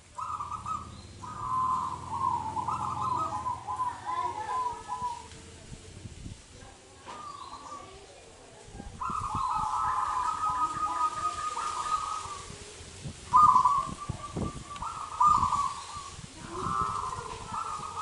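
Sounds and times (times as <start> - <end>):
dove cooing: 0.0 - 5.7, 8.9 - 18.0.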